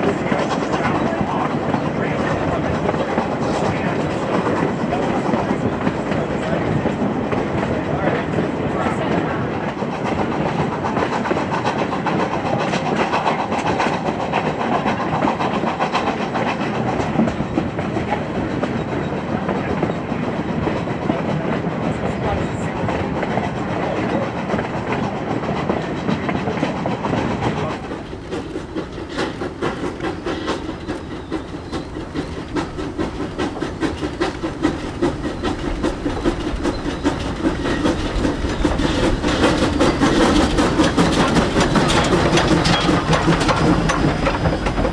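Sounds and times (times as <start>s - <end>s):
steam train clattering: 0.0s - 44.9s.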